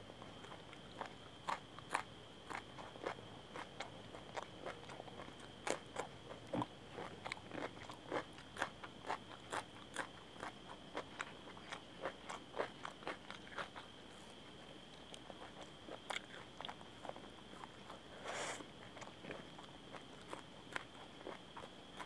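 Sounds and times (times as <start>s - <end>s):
chewing crunchy food: 0.1s - 22.0s.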